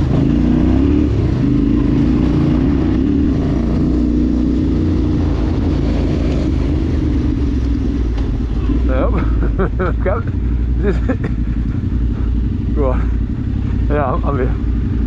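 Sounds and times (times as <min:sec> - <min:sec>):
low rumble: 0:00.0 - 0:15.0
vehicle engine running: 0:00.0 - 0:15.0.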